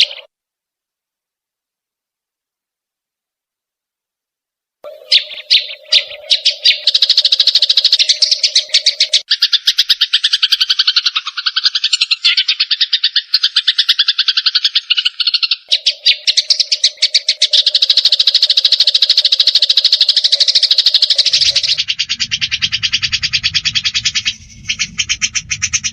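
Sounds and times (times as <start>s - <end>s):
birds harsh agitated chattering: 0.0s - 0.3s, 4.8s - 25.9s.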